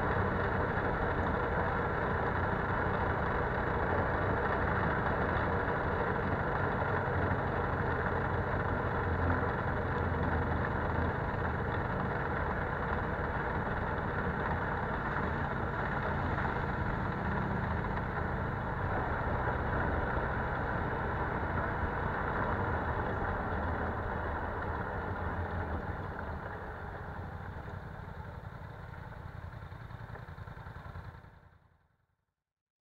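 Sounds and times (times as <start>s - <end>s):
atv engine running: 0.0s - 31.8s.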